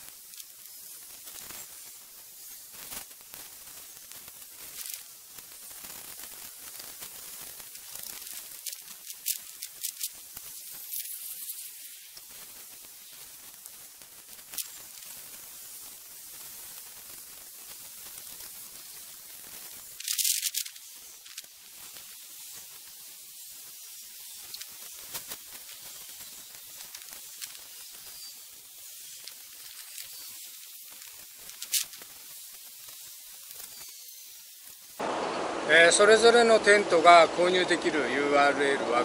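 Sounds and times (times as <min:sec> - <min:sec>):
rustling burst: 0:00.0 - 0:35.1
faint hiss: 0:00.0 - 0:39.0.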